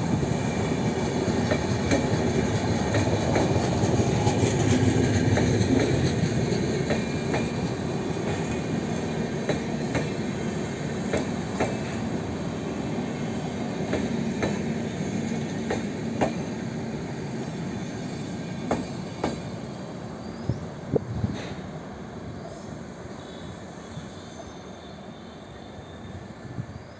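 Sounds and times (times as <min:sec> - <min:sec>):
train rumbling past on rails: 0:00.0 - 0:26.9.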